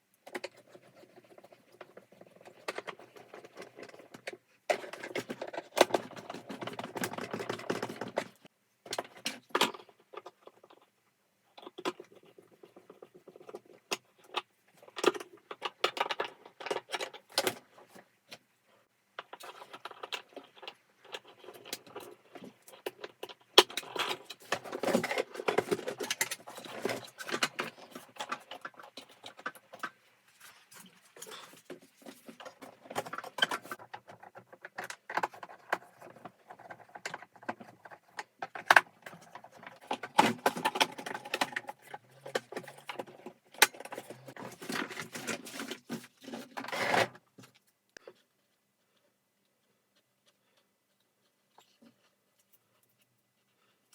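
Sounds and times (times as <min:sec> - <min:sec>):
small hard parts clicking and rattling: 0:00.1 - 0:18.5, 0:19.1 - 0:53.9.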